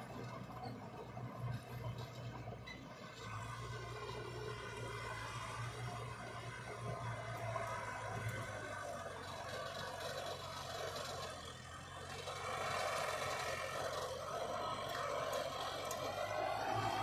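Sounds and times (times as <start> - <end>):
diesel machinery engine drone: 0.0 - 17.0.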